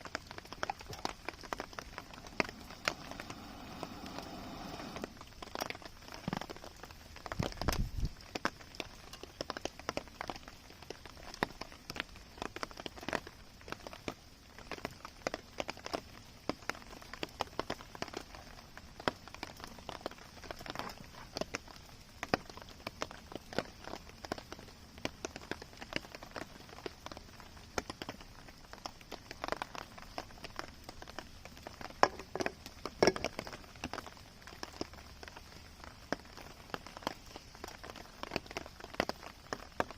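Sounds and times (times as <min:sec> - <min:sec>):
rain tapping on a tarp: 0:00.0 - 0:39.9.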